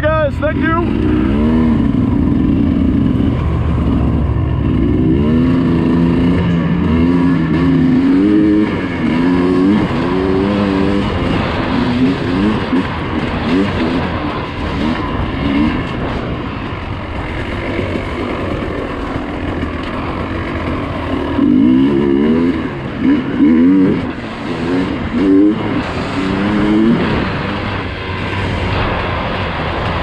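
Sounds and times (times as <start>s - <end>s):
dirt bike engine revving: 0.0s - 30.0s
steady rushing noise: 0.0s - 30.0s.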